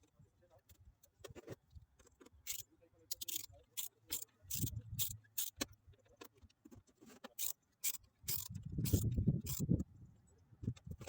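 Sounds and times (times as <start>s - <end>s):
sharp clicks and light rattles: 0.0s - 9.8s.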